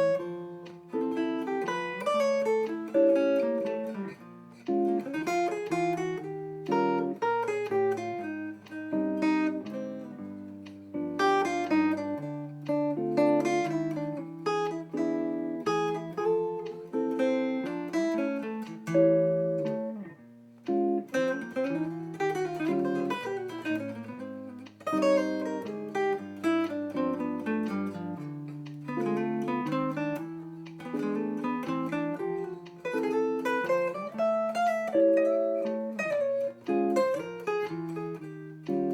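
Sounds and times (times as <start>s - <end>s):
acoustic guitar music: 0.0s - 38.9s.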